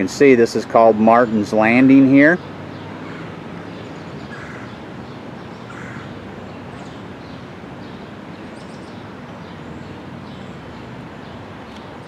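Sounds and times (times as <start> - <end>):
steady outdoor noise: 0.0 - 12.0.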